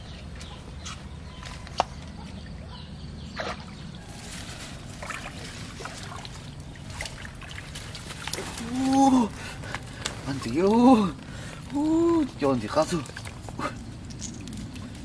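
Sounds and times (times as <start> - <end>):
water trickling: 2.4 - 15.0.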